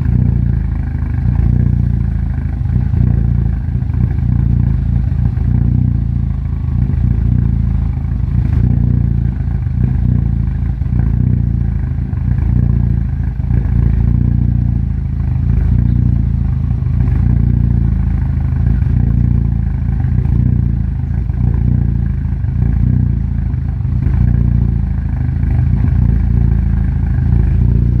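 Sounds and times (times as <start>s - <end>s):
engine idling roughly: 0.0s - 28.0s.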